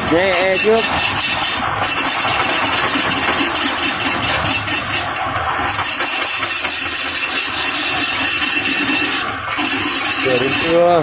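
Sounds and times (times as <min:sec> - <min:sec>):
cutting tool on wood: 0:00.0 - 0:11.0
wood lathe running: 0:00.0 - 0:11.0.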